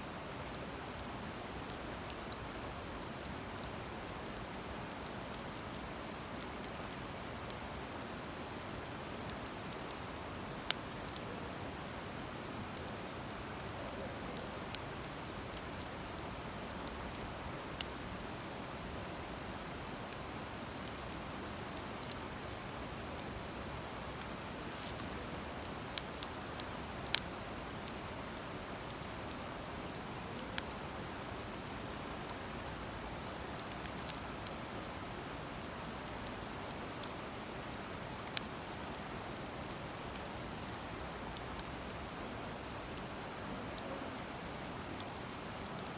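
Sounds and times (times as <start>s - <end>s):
wood fire crackling: 0.1s - 45.9s.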